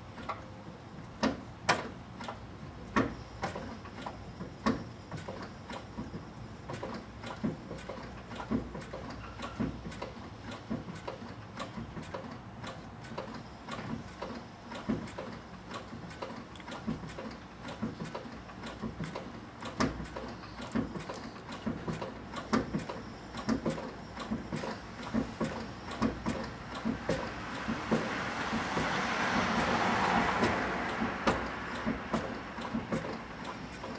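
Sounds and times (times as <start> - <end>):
clutch pedal clicking: 1.0 - 28.9, 30.4 - 33.9.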